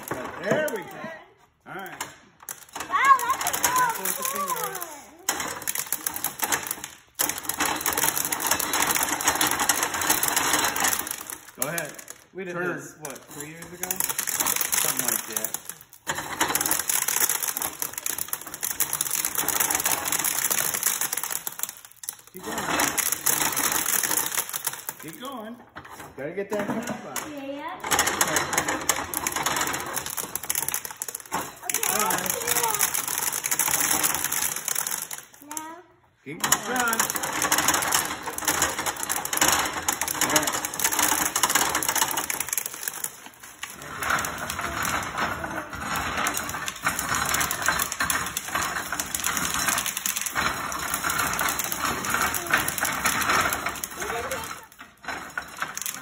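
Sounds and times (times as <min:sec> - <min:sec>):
corn sheller clattering: 0:00.0 - 0:56.0.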